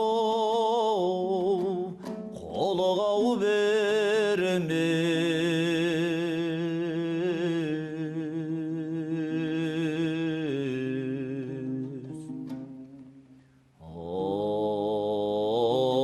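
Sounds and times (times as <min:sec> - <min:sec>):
person singing folk song: 0:00.0 - 0:16.0.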